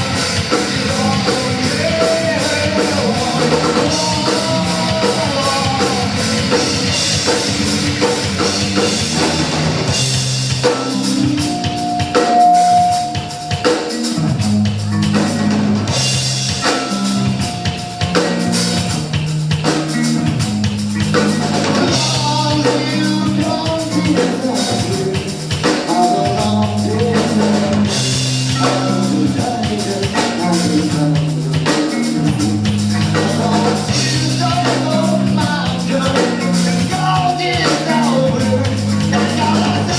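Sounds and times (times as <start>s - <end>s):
bass guitar riff: 0.0s - 39.9s
drum kit: 0.0s - 39.9s
electric guitar: 0.0s - 39.9s
rock band playing live: 0.0s - 39.9s.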